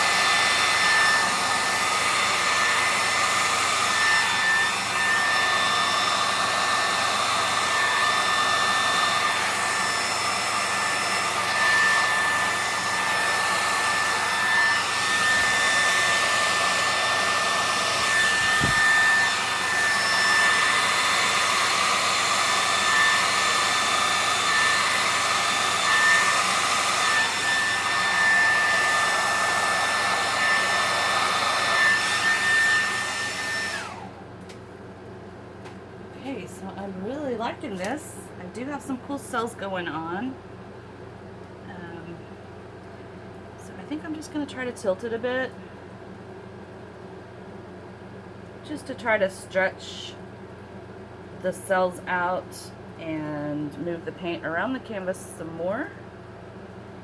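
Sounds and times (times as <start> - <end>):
hair dryer running: 0.0 - 34.6, 35.6 - 40.4, 48.7 - 57.0.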